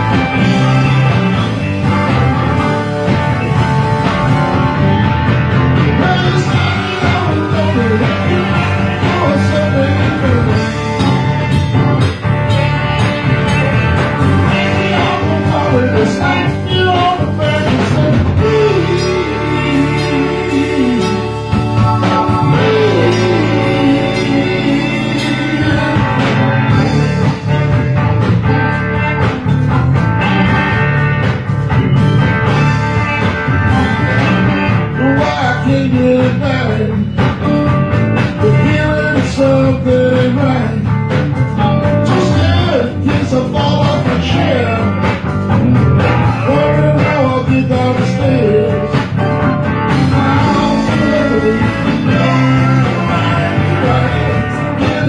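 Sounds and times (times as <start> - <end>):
bending lead guitar line: 0.0 - 55.0
live band playing: 0.0 - 55.0.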